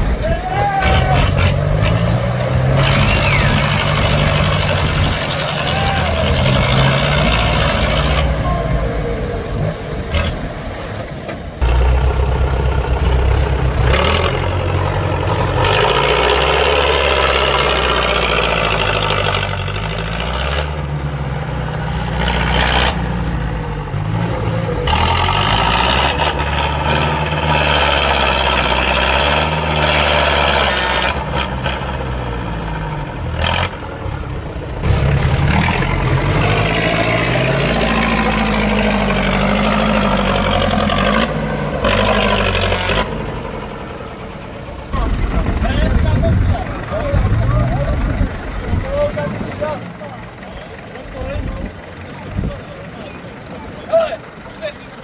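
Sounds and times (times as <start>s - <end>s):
heavy diesel engines revving: 0.0s - 55.0s.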